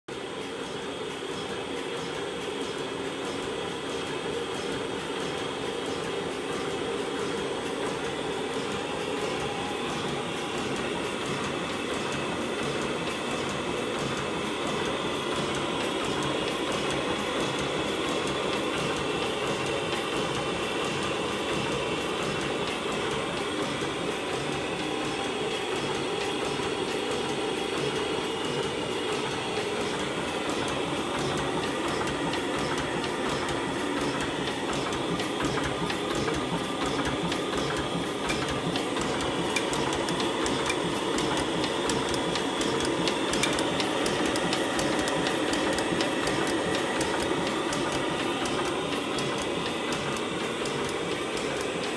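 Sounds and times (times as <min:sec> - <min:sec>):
stationary engine clattering: 0:01.3 - 0:51.9.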